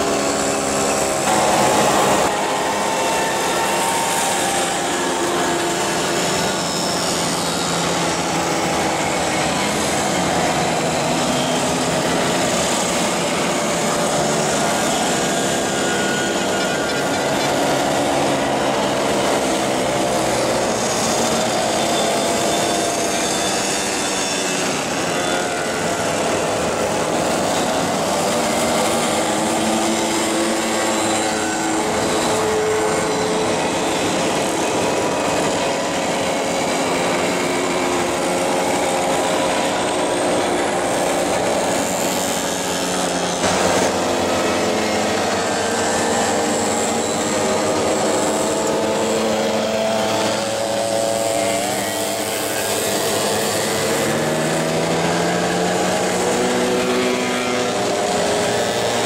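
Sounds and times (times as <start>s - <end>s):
moped engines buzzing: 0.0s - 59.0s.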